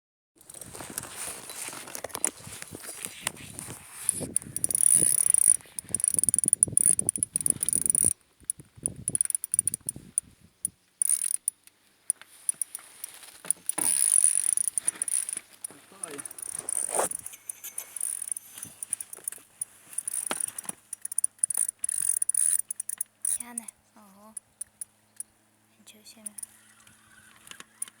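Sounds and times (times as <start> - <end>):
fishing reel drag buzz: 2.9 - 23.4, 24.4 - 24.9, 26.2 - 28.0
fishing reel ratcheting clicks: 3.0 - 23.7, 24.4 - 25.3, 26.2 - 28.0.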